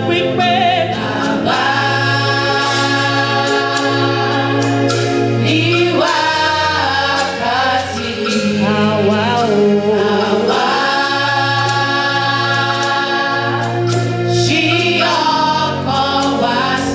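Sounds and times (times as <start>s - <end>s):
choir singing gospel: 0.0s - 16.9s.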